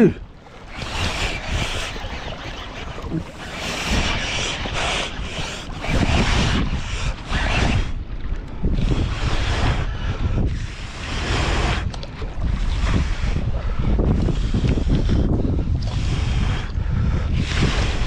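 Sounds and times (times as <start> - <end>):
sea water washing around kayak: 0.0 - 18.0
wind buffeting the microphone: 0.0 - 18.0.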